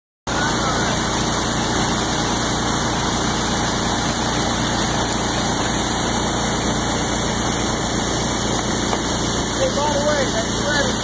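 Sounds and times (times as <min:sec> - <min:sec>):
waterfall rushing into pool: 0:00.3 - 0:11.0.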